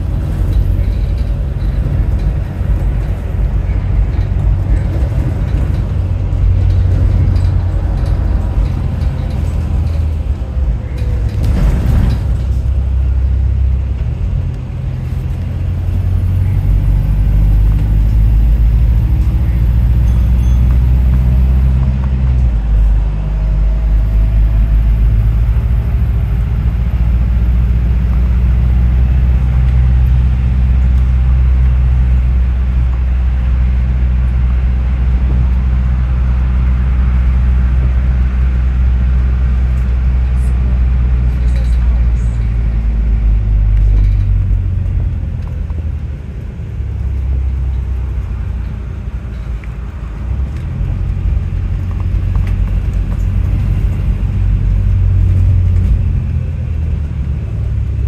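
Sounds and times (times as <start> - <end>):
bus engine rumble with whine: 0.0 - 58.0.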